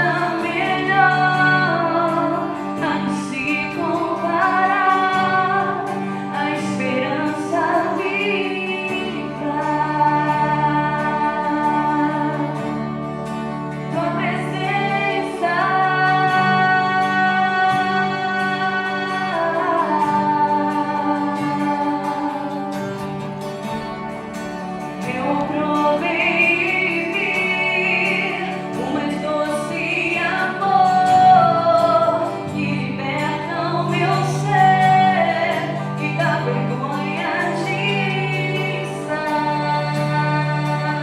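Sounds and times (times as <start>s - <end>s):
person singing worship song: 0.0s - 12.9s, 13.8s - 23.0s, 25.0s - 41.0s
guitar: 0.0s - 41.0s.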